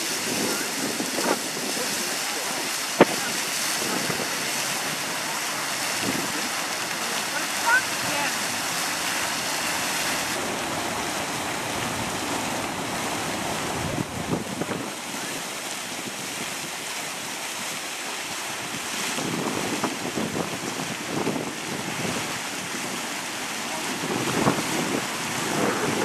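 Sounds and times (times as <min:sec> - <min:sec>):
fountain water splashing: 0:00.0 - 0:26.0
wind buffeting microphone: 0:00.0 - 0:26.0.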